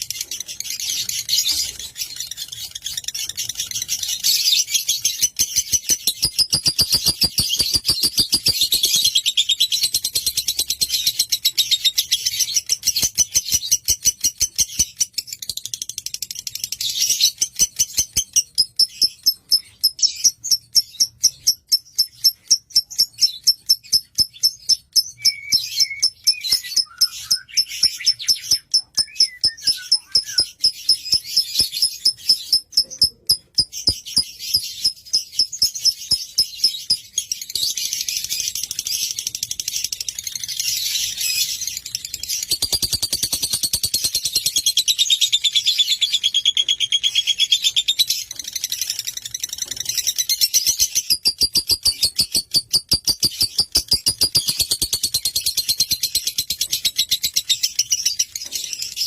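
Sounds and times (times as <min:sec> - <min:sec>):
lovebird chirping: 0:00.0 - 0:59.0.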